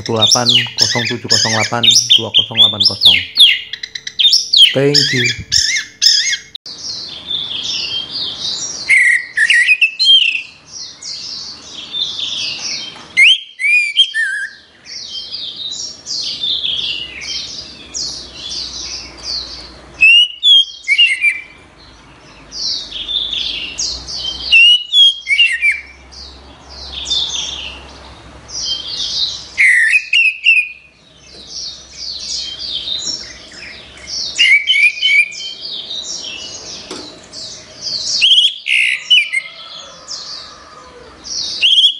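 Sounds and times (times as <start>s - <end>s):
bird singing high twittering: 0.0s - 41.9s.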